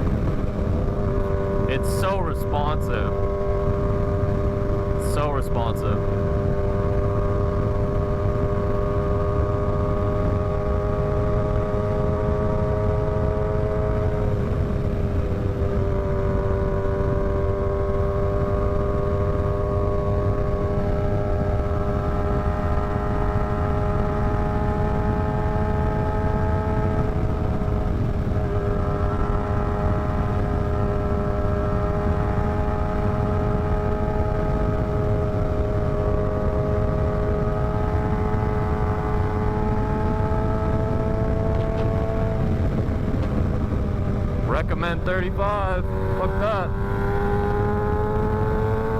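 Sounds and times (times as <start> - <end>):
wind rumble: 0.0 - 5.1, 5.7 - 48.9
motorcycle engine running: 0.0 - 48.9.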